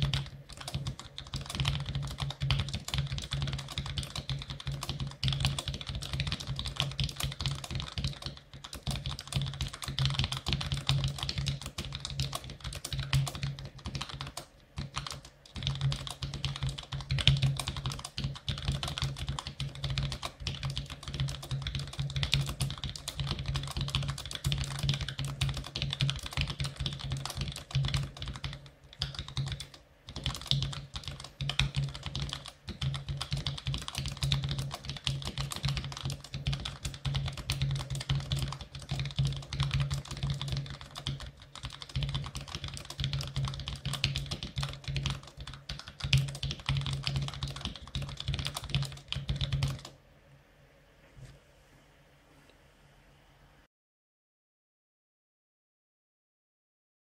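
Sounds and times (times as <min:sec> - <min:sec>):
fast keyboard typing: 0:00.0 - 0:50.0.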